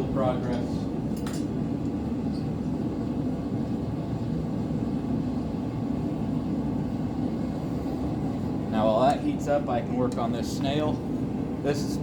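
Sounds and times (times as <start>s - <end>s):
forge burner rushing: 0.0s - 12.0s.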